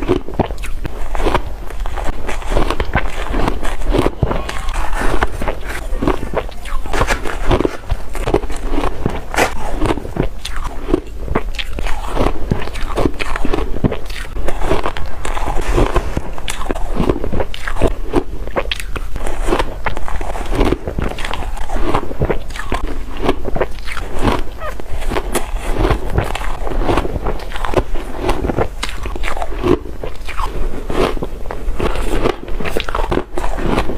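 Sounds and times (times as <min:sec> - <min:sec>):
crunching and chewing ice: 0:00.0 - 0:33.9.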